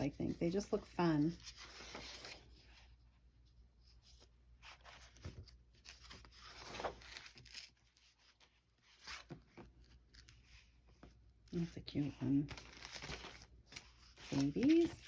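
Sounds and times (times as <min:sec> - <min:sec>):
paper pages rustling: 0:00.0 - 0:03.0, 0:03.8 - 0:11.3, 0:11.9 - 0:15.0.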